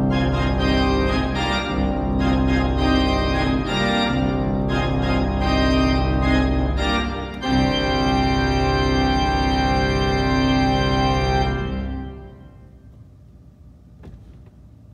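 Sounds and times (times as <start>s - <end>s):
pipe organ playing chords: 0.0s - 12.9s.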